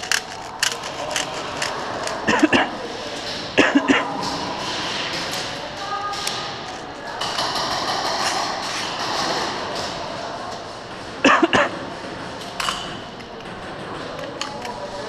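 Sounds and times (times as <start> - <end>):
echoing arena noise: 0.0 - 15.0
faint distant voices: 0.0 - 15.0.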